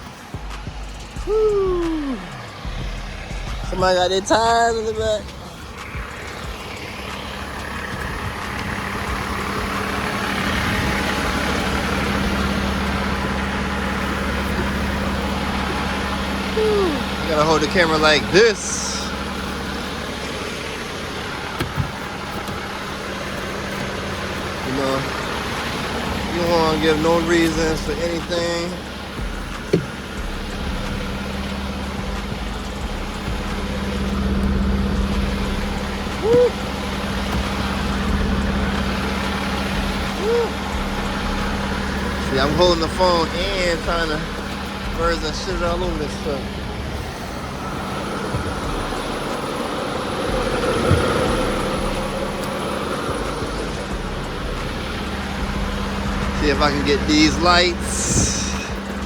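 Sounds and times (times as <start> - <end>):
truck diesel engine humming: 0.0 - 59.0.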